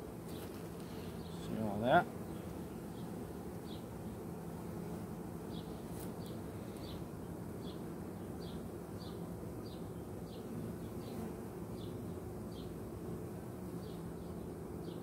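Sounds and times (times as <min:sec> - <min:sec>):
bees humming: 0:00.0 - 0:15.0.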